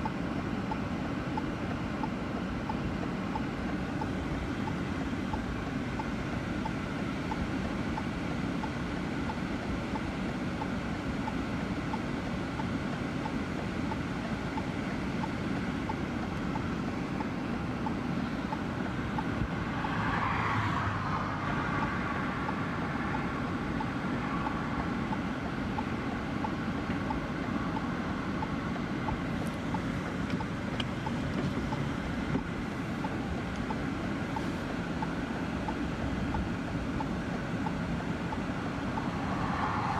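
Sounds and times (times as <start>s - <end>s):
vehicle rumble: 0.0s - 39.9s
wind: 0.0s - 39.9s.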